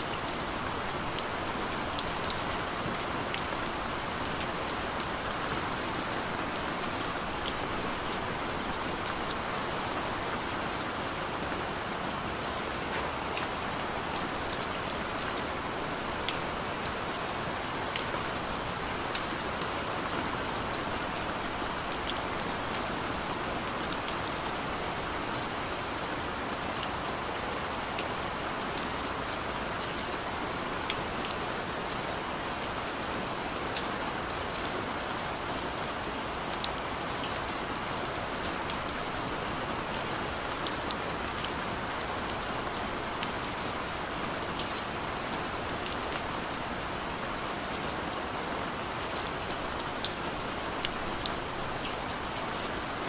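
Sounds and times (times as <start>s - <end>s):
rain hissing on a surface: 0.0s - 53.0s
raindrops ticking and pattering: 0.0s - 53.0s.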